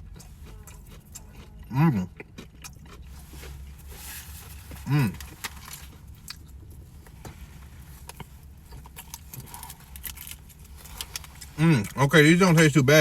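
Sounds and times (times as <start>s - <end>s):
crisp chewing crunches: 0.0s - 6.8s, 7.8s - 12.7s
low steady hum: 0.0s - 13.0s.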